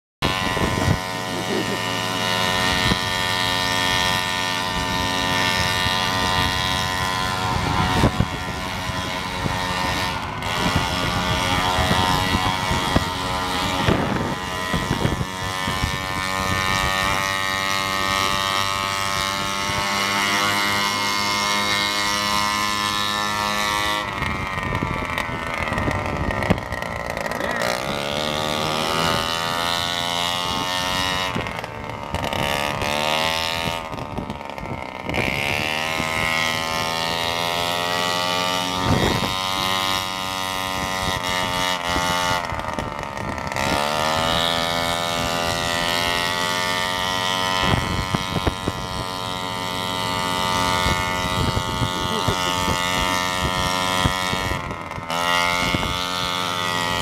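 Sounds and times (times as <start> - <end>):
moped engines revving high: 0.2 - 57.0.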